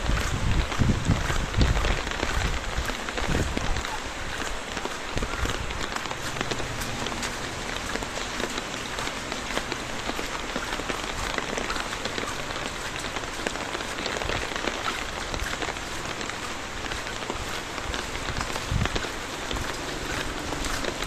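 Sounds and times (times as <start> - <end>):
rain on wet pavement: 0.0 - 21.0.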